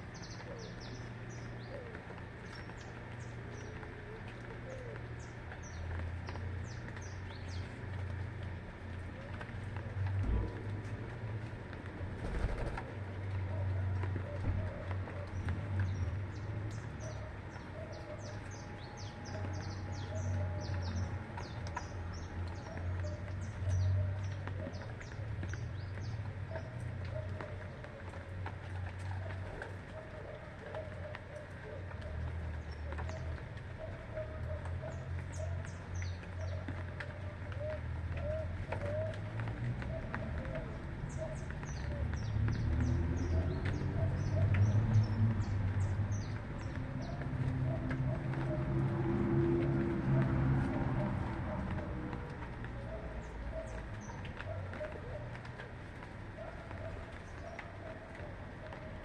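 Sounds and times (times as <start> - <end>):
small birds chirping: 0.0 - 9.0, 13.5 - 48.8, 51.4 - 59.0.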